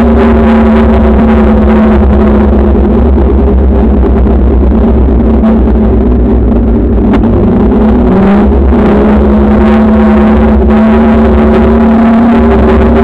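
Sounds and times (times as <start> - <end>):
steady droning hum: 0.0 - 13.0.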